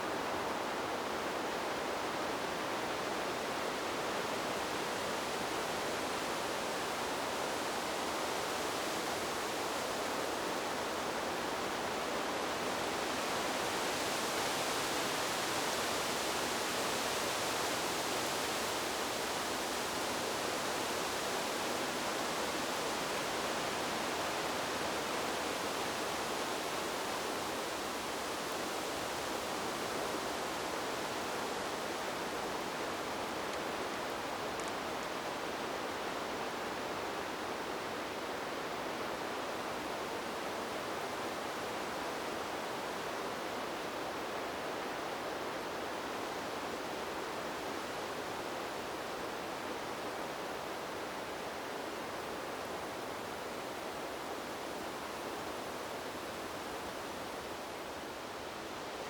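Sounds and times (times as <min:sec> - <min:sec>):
wind blowing through foliage: 0:00.0 - 0:59.0.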